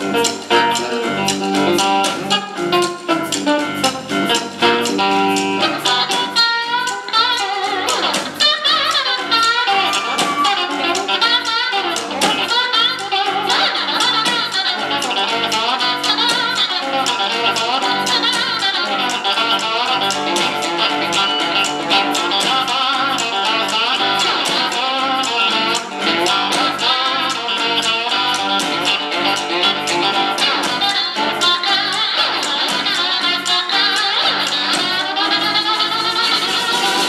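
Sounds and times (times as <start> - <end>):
blues band playing: 0.0 - 37.0
electric guitar lead: 0.0 - 37.0.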